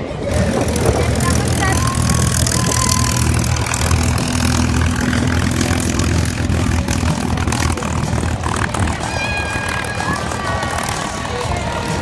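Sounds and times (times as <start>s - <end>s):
aircraft engine low drone: 0.0s - 12.0s.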